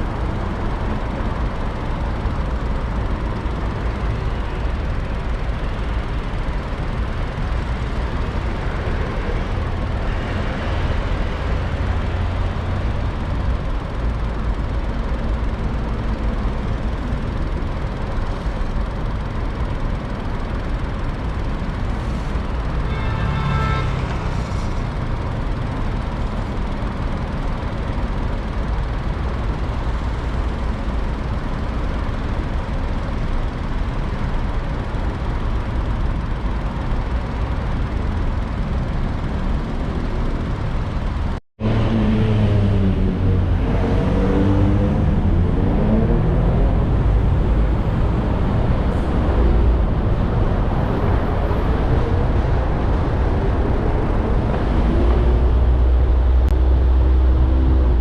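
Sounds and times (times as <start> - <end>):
car driving in traffic: 0.0 - 58.0.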